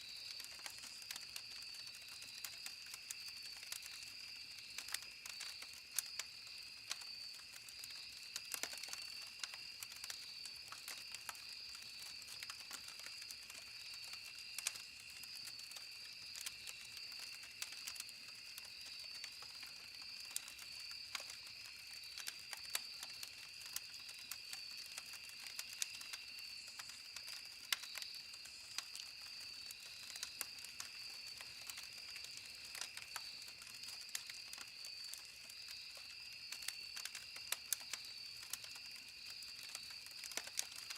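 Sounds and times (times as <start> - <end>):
campfire wood crackling: 0.0 - 40.9.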